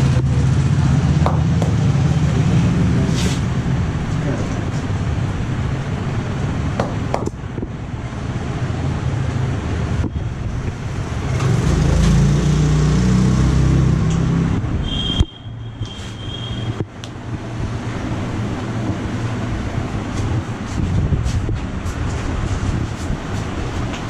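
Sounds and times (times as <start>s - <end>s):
road traffic rumbling: 0.0s - 24.0s
vehicle engine: 0.0s - 24.0s.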